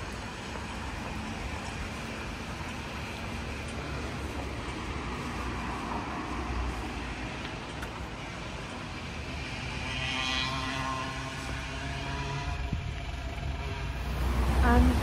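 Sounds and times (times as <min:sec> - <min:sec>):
road traffic rumble: 0:00.0 - 0:15.0
car passing on wet road: 0:00.6 - 0:12.5, 0:13.8 - 0:15.0.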